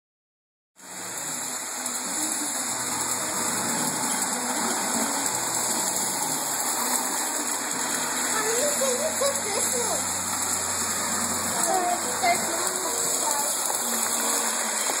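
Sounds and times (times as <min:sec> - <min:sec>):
toy train on metal rails: 0:00.8 - 0:15.0.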